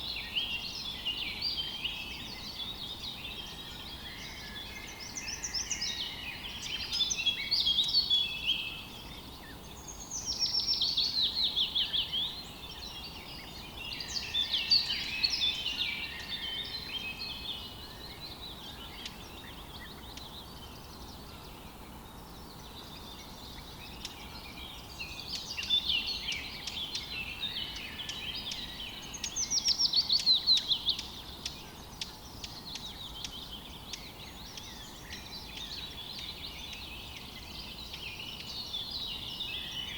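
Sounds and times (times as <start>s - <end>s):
faint outdoor hiss: 0.0s - 39.9s
songbirds singing: 0.0s - 39.9s.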